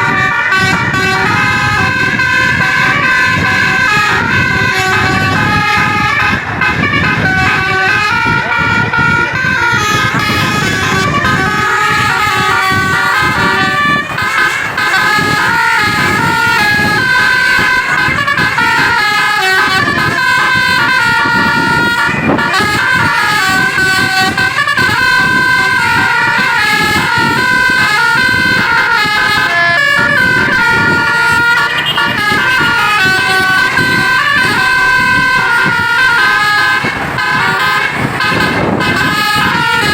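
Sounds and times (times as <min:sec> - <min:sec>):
bus engine and road noise: 0:00.0 - 0:39.9
multi-tone air horn melody: 0:00.0 - 0:39.9.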